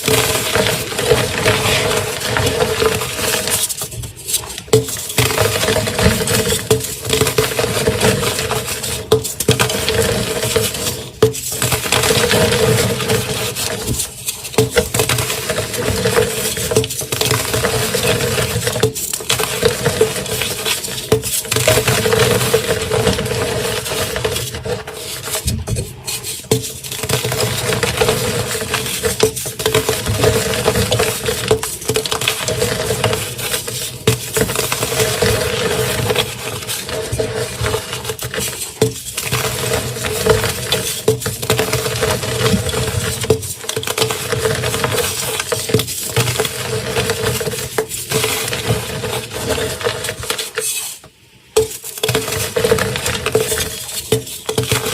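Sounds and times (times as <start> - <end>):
chalk blocks crunching: 0.0 - 54.9.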